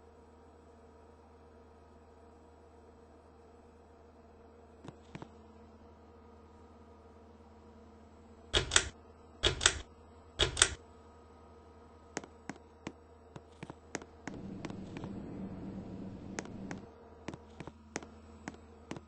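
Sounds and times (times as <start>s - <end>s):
ceiling fan whir: 0.0s - 19.0s
faint steady hum: 0.0s - 19.0s.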